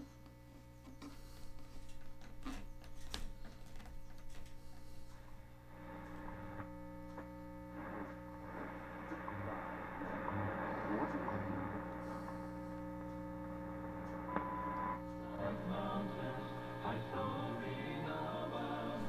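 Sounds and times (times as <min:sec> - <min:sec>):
radio hiss with steady tones: 0:00.0 - 0:19.0
radio hum: 0:00.0 - 0:19.0
static crackles: 0:00.0 - 0:19.0.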